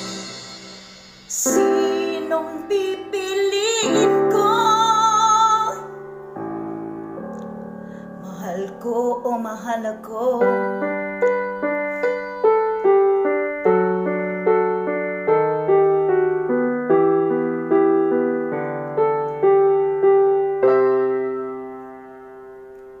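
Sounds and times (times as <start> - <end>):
piano playing: 0.0 - 23.0.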